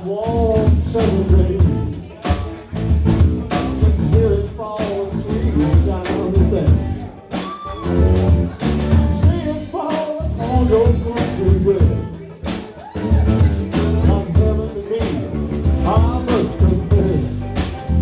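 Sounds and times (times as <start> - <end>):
bass: 0.0 - 18.0
drum kit beat: 0.0 - 18.0
live band playing: 0.0 - 18.0
person singing: 3.4 - 18.0.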